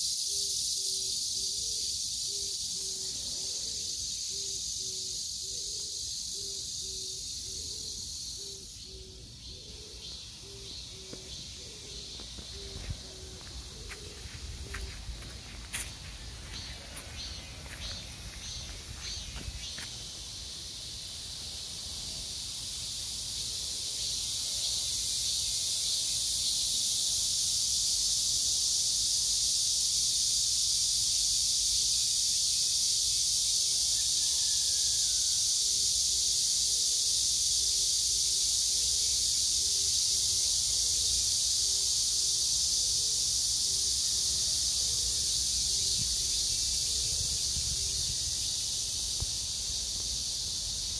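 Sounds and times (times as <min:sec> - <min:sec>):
cicadas singing: 0:00.0 - 0:50.9.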